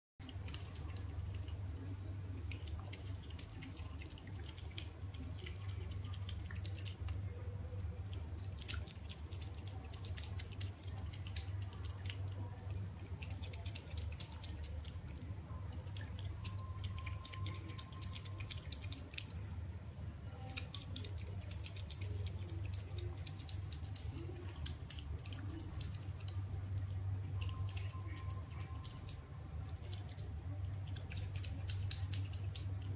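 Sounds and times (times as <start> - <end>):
otter chewing crunchy food: 0.2 - 19.5, 20.3 - 32.9
steady low hum: 0.2 - 32.9.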